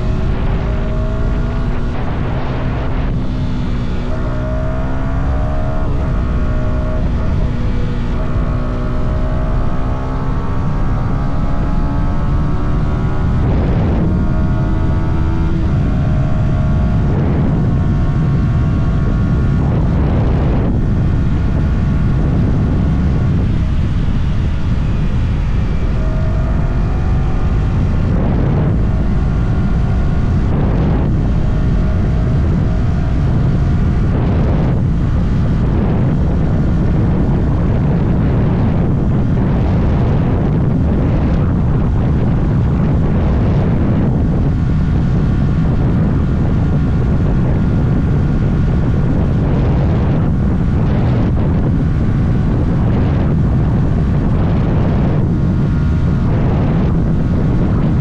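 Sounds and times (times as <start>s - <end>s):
motorcycle engine accelerating: 0.0s - 58.0s
wind on microphone: 0.0s - 58.0s.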